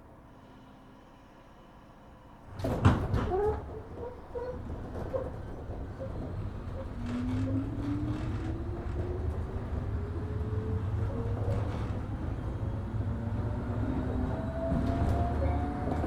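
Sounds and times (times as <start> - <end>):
train rumble: 2.1 - 16.0
train doors shutting: 2.5 - 16.0.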